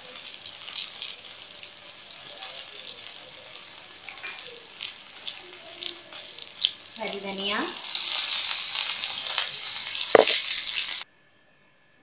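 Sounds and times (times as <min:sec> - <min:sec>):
frying sizzle with crackles: 0:00.0 - 0:11.1.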